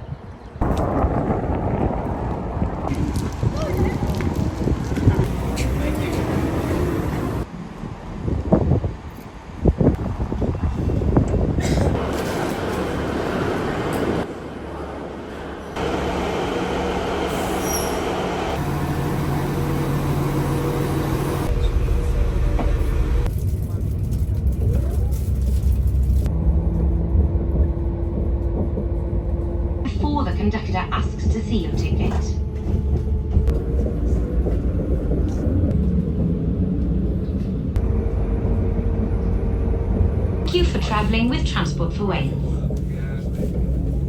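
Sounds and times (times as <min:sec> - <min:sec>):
passenger train rumbling: 0:00.0 - 0:44.0.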